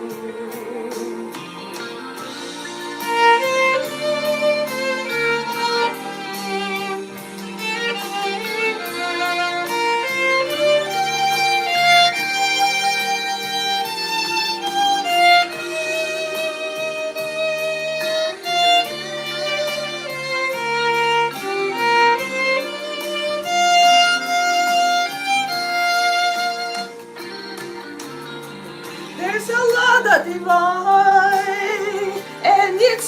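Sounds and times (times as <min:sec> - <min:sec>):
instrumental pop ballad music: 0:00.0 - 0:33.0.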